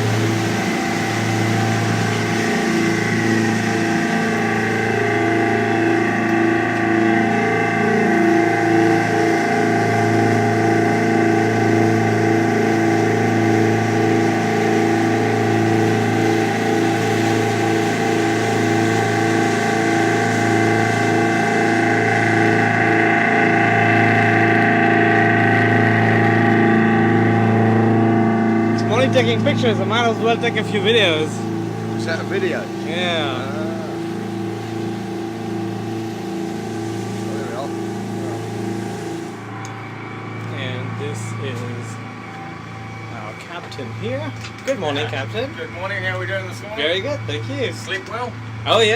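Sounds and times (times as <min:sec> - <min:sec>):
boat engine droning: 0:00.0 - 0:48.9.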